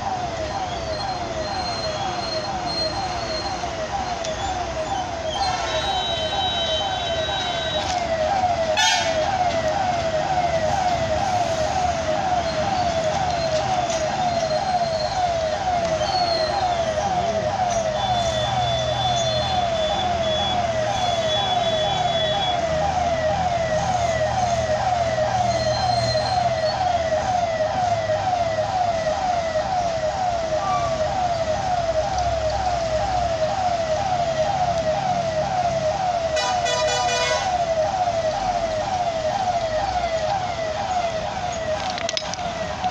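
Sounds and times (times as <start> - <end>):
heavy truck engines rumbling: 0.0 - 42.9
level crossing warning siren: 0.0 - 42.9.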